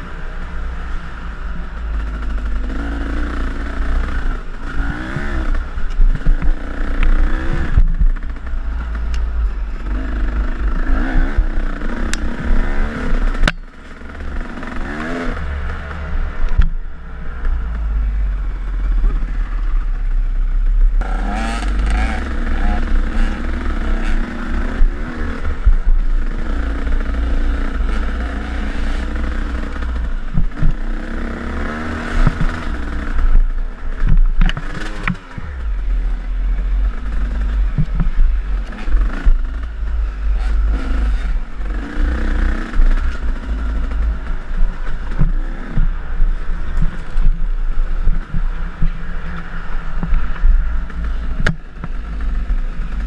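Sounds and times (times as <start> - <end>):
dirt bike engine revving: 1.8 - 9.1, 9.8 - 16.3, 21.0 - 53.0.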